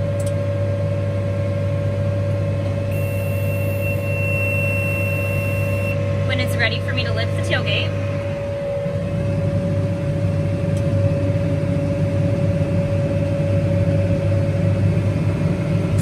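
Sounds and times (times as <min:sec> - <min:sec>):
high whine: 0:00.0 - 0:16.0
tractor engine drone: 0:00.0 - 0:16.0.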